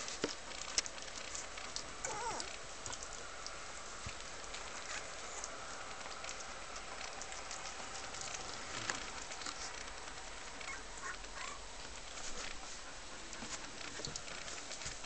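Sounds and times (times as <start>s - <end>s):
puppies nursing and shuffling: 0.0s - 15.0s
steady hiss: 0.0s - 15.0s.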